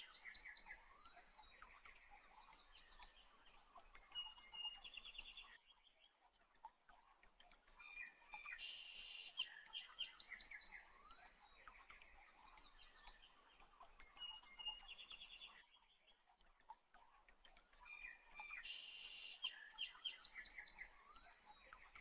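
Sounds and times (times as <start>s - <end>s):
faint birds chirping and trilling: 0.0s - 22.0s.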